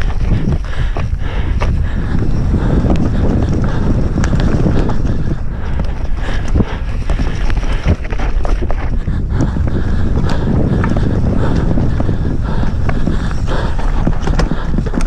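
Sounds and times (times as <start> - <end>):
bike knocks and rattles: 0.0 - 15.0
wind buffeting microphone: 0.0 - 15.0.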